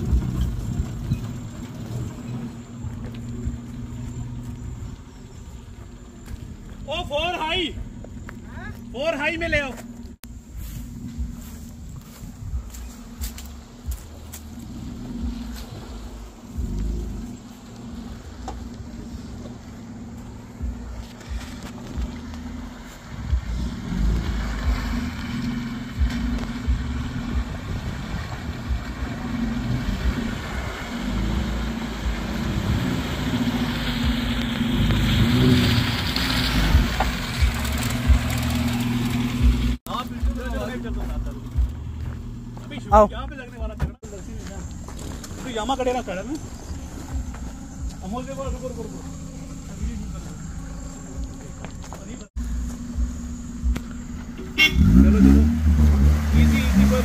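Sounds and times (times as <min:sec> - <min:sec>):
engine running at low revs: 0:00.0 - 0:06.8, 0:09.8 - 0:57.0.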